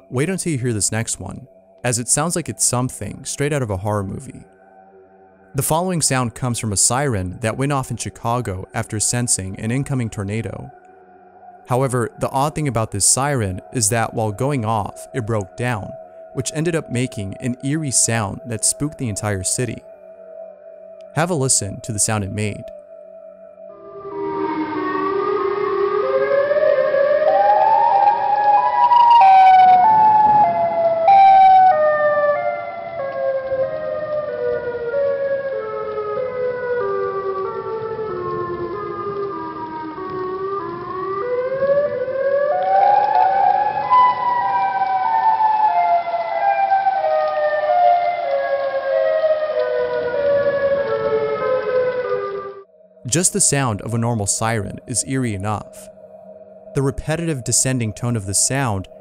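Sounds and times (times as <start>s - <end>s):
warning siren stepping tone: 0.0s - 59.0s.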